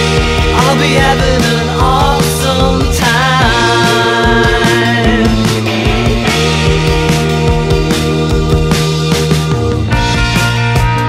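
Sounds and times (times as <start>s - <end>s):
rock music instrumental: 0.0s - 11.0s.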